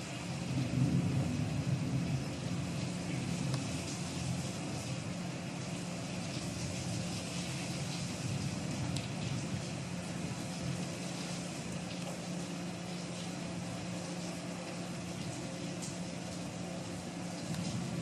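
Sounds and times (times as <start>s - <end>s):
heavy rain hiss: 0.0s - 18.0s
low steady hum: 0.0s - 18.0s.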